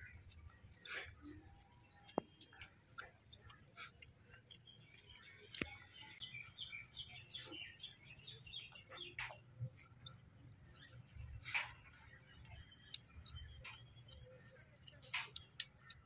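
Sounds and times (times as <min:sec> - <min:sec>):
people eating by hand: 0:00.0 - 0:16.0
small birds chirping: 0:00.0 - 0:16.0.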